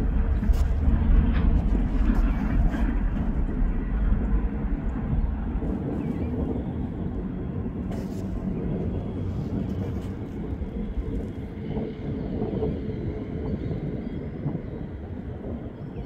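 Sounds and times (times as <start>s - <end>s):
freight train rumble and clatter: 0.0s - 16.0s.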